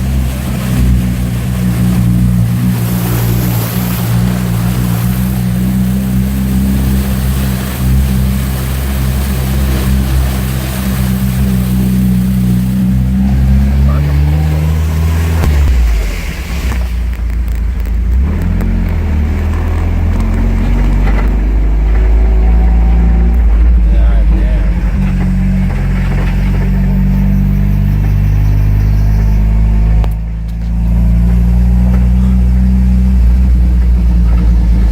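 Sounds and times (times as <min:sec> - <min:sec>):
rushing noise: 0:00.0 - 0:30.0
vehicle engine humming: 0:00.0 - 0:34.9.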